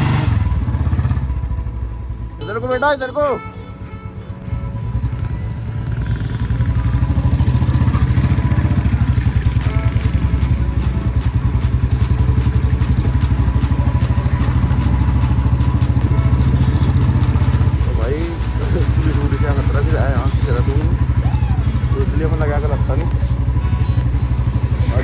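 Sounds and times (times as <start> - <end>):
motorcycle engine exhaust note: 0.0 - 25.0.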